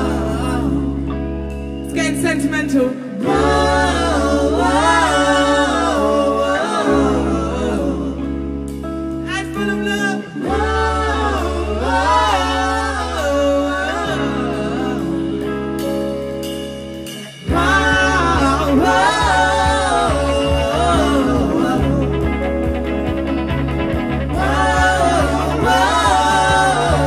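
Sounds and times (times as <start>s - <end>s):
electric guitars: 0.0s - 27.0s
keyboard: 0.0s - 27.0s
person singing with vibrato: 0.0s - 27.0s.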